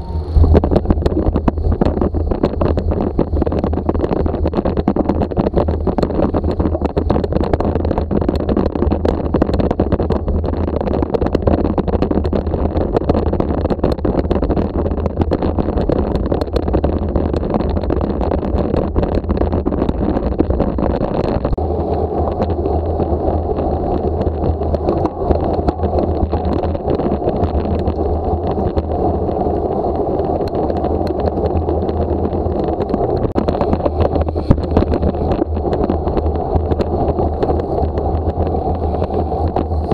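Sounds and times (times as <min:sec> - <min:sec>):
wheels rattling over cobblestones: 0:00.0 - 0:39.9
wind and road rush: 0:00.0 - 0:39.9.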